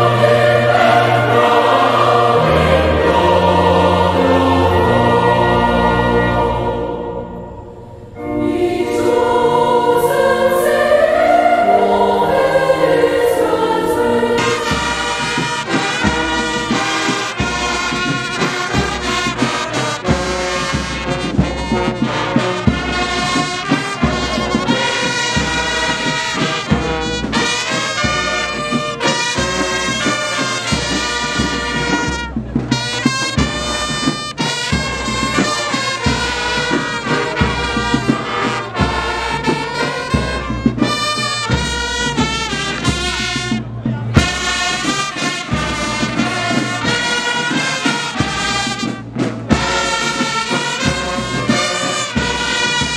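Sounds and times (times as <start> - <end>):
brass band playing march: 0.0 - 52.9.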